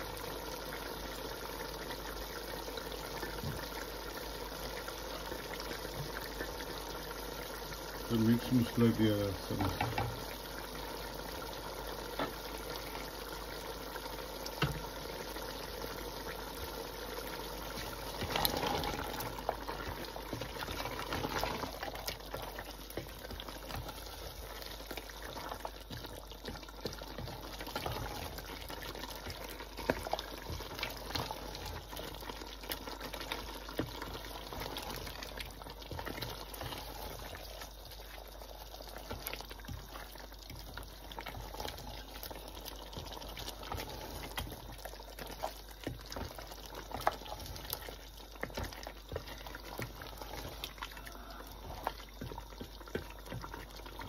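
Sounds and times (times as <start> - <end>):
curry simmering and bubbling: 0.0 - 54.0
wooden spoon stirring pot: 7.4 - 54.0.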